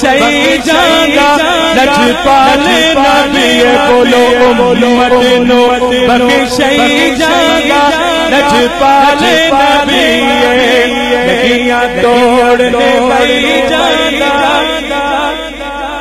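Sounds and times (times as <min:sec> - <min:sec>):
man chanting over loudspeaker: 0:00.0 - 0:16.0.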